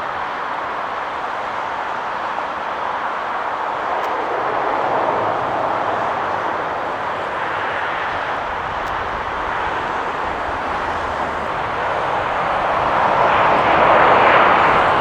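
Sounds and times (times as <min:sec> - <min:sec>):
jet airliner passing overhead: 0:00.0 - 0:15.0.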